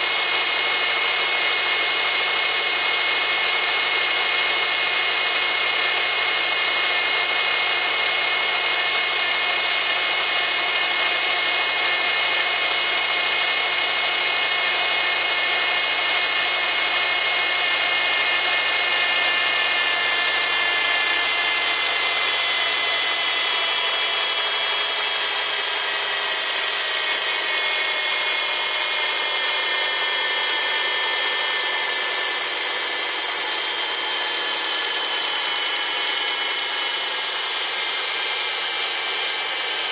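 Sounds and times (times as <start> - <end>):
engine running with whine: 0.0 - 39.9.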